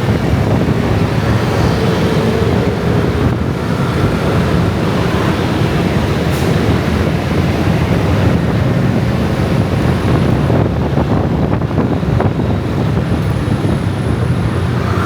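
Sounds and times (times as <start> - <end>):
motor scooter traffic: 0.0 - 15.0.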